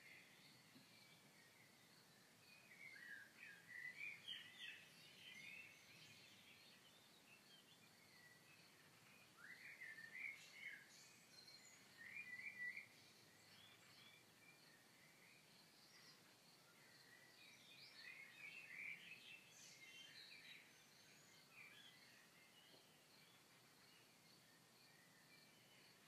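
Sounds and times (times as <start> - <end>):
soft outdoor hiss: 0.0 - 26.0
songbird twittering: 0.0 - 26.0.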